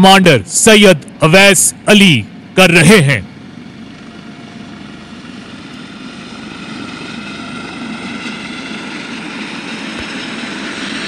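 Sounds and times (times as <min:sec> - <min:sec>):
helicopters flying past: 0:00.0 - 0:11.0.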